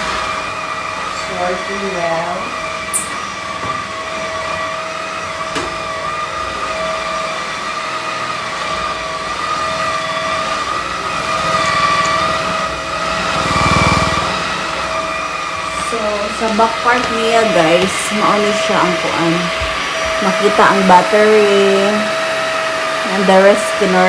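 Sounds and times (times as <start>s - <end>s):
vacuum cleaner motor whine: 0.0s - 24.0s.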